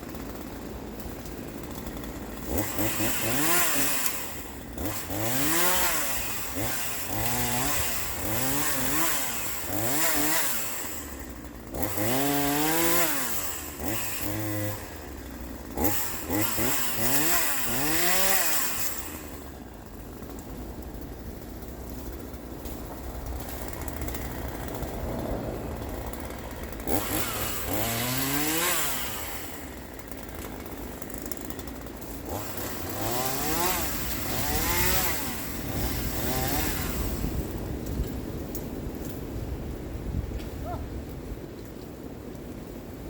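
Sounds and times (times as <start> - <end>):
chainsaw idling and revving: 0.0 - 40.0.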